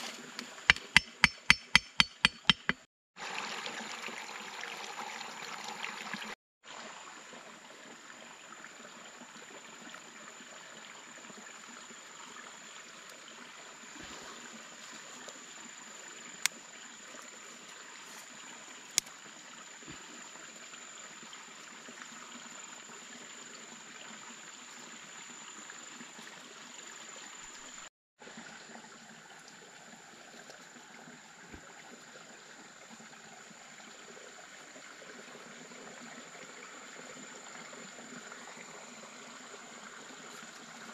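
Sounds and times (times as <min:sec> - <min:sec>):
water trickling: 0:03.2 - 0:40.9.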